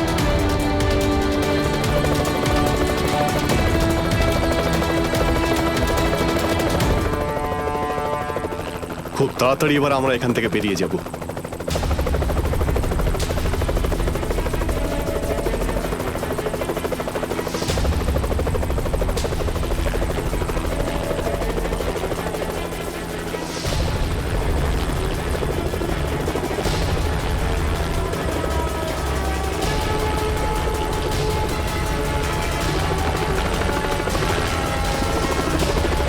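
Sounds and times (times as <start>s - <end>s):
dramatic orchestral music: 0.0s - 10.4s, 11.1s - 36.0s
helicopter rotor chopping: 0.0s - 36.0s.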